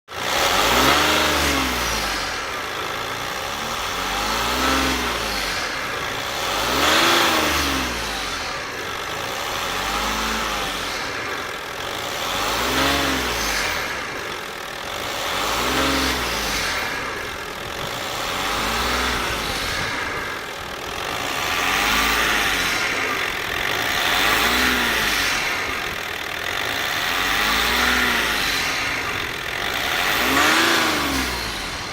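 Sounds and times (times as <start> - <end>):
car engine revving: 0.1 - 31.9.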